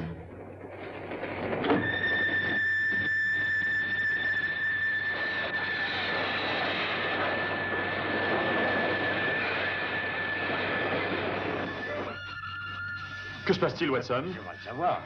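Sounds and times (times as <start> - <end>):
high-pitched brake squeal: 1.7 - 15.0.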